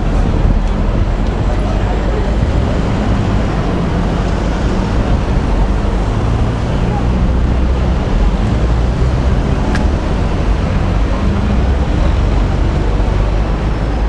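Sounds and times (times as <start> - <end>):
cars passing close by: 0.0 - 14.0.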